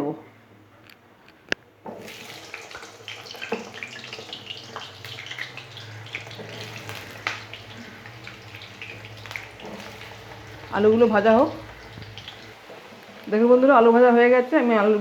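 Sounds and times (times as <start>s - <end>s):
oil crackling and popping: 1.5s - 13.8s
potatoes sizzling in hot oil: 1.9s - 15.0s.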